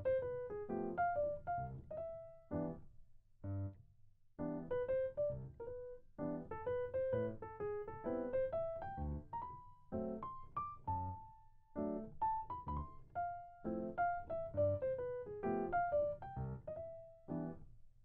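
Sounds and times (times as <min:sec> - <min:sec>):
piano music: 0:00.0 - 0:02.8, 0:04.4 - 0:17.6.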